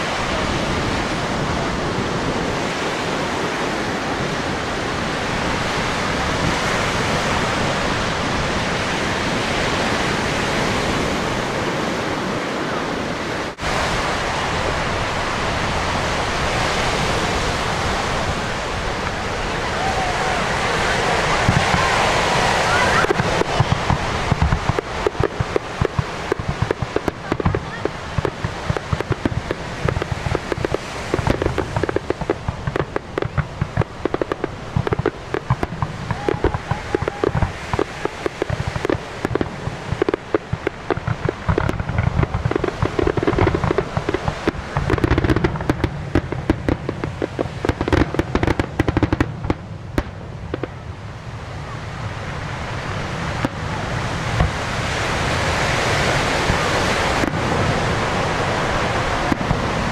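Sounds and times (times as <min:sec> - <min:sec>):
fireworks bangs and crackles: 0:00.0 - 0:59.9
steady rushing noise: 0:00.0 - 0:59.9.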